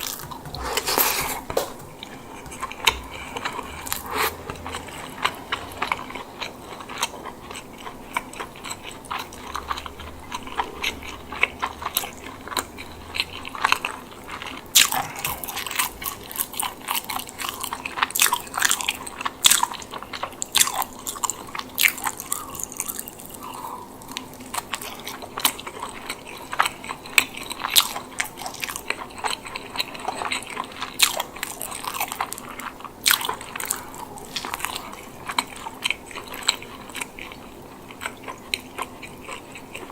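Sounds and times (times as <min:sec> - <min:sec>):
chewing food: 0:00.0 - 0:39.9.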